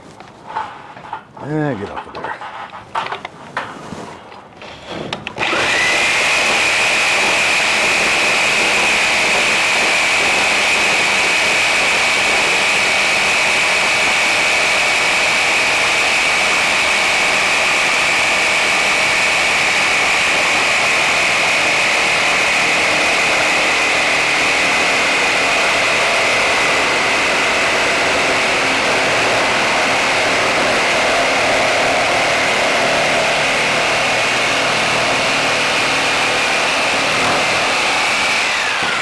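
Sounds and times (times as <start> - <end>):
circular saw cutting wood: 4.7 - 39.0.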